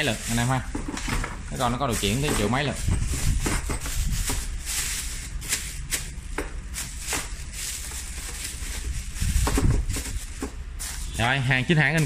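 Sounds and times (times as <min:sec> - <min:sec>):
plastic bag crinkling: 0:00.0 - 0:00.7, 0:01.5 - 0:11.5.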